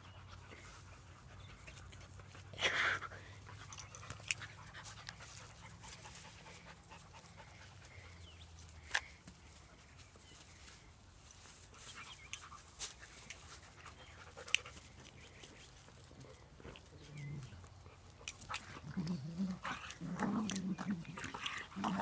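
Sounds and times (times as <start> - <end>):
dogs panting and scuffling: 0.0 - 22.0.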